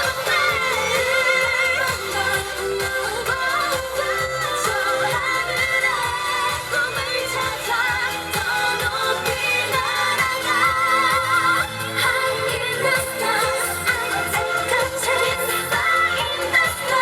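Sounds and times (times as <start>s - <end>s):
women singing pop song: 0.0s - 17.0s.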